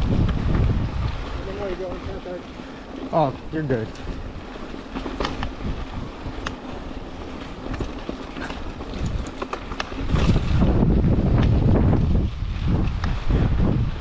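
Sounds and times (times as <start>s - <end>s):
bike tyres and frame rattling: 0.0s - 14.0s
wind buffeting microphone: 0.0s - 14.0s.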